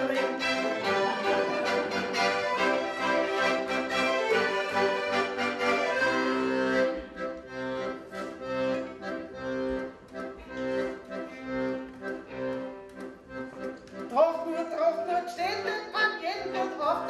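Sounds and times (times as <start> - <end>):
violin: 0.0 - 14.1
accordion: 0.0 - 17.0.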